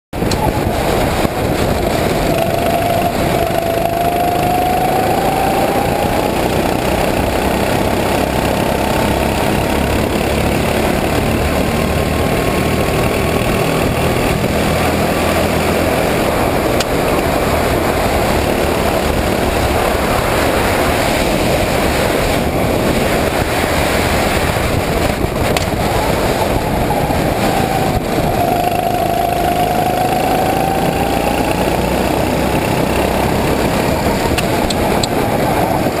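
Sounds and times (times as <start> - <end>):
kart engine running at speed: 0.1 - 36.0.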